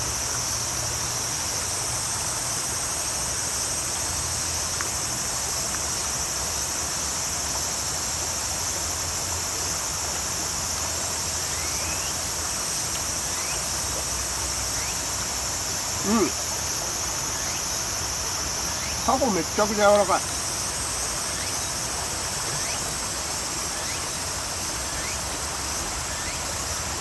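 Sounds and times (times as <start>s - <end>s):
insects chirring: 0.0s - 27.0s
shallow stream rushing: 0.0s - 27.0s.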